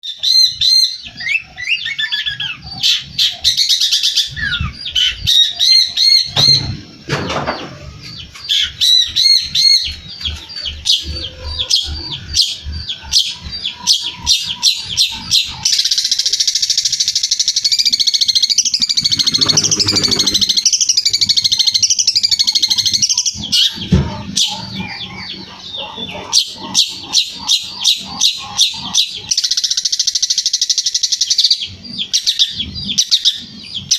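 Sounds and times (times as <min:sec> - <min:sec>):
bird singing chirps and trills: 0:00.0 - 0:33.9.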